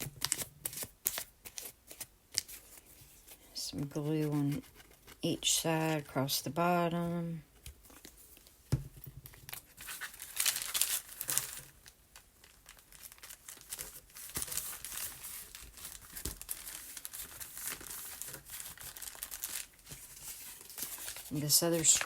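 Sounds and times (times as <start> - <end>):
paper rustling and crinkling: 0.0 - 5.2, 9.2 - 22.0.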